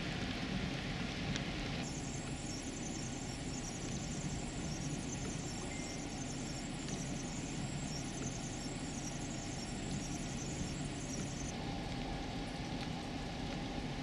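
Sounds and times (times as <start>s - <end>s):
constant low noise: 0.0s - 14.0s
freezing rain hissing: 0.0s - 14.0s.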